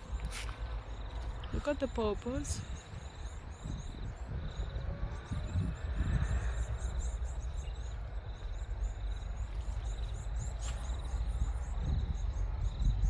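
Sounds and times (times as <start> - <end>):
insects trilling: 0.0 - 13.0
low microphone rumble: 0.0 - 13.0.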